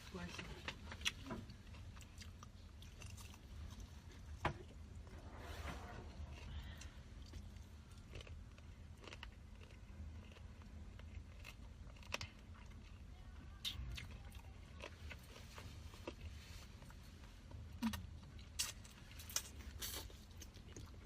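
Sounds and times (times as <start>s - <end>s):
low steady hum: 0.0s - 21.0s
person chewing food: 0.2s - 5.1s, 6.0s - 21.0s.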